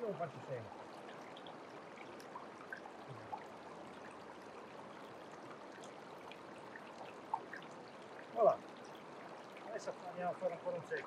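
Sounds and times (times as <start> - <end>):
creek water running through sluice: 0.0 - 11.0
water trickles and droplets: 0.0 - 11.0.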